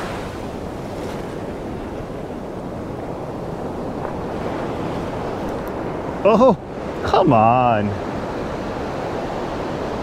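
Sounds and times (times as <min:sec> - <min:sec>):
ocean surf rushing through foam: 0:00.0 - 0:10.0.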